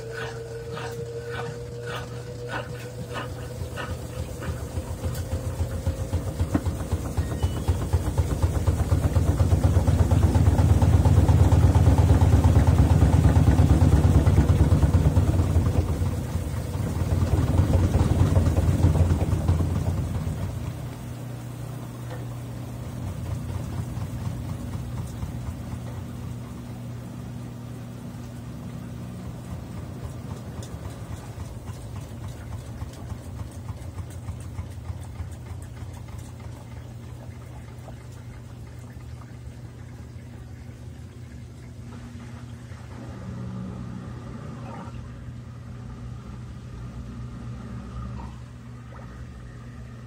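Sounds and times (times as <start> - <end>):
washing machine spinning: 0.0 - 50.0.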